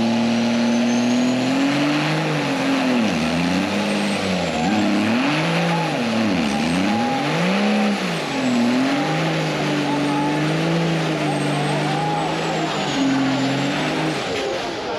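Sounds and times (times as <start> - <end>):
truck engine revving: 0.0 - 14.9.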